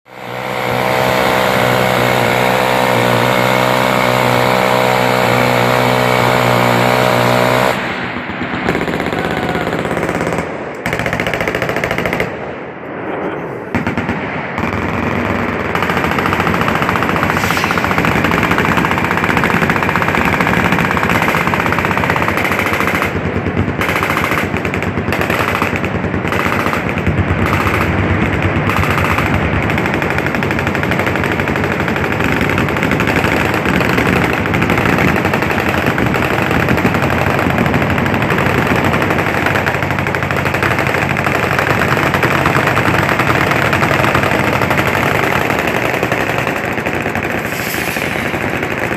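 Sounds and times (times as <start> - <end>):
miniguns firing: 0.1 - 12.6, 13.7 - 48.9.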